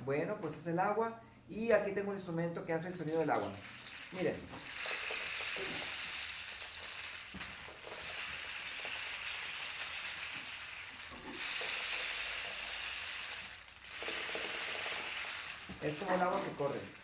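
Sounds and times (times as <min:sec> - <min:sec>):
rain stick beads pouring: 0:02.8 - 0:17.0.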